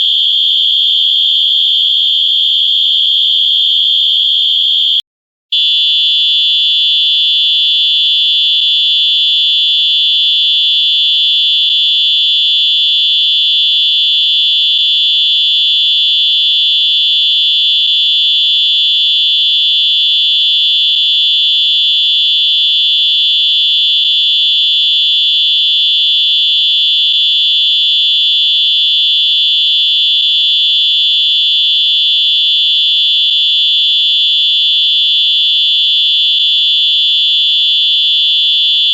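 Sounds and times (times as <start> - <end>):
electronic whistle tone: 5.6 - 38.9.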